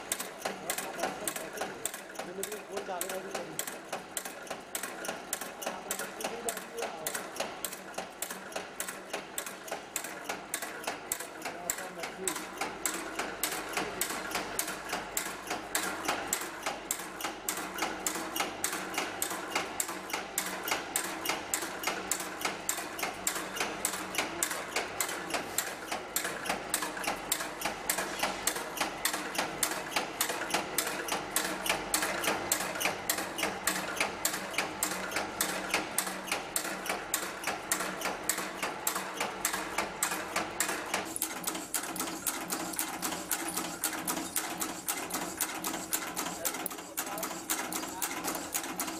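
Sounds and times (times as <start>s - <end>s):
machine clacking rhythmically: 0.0s - 48.9s.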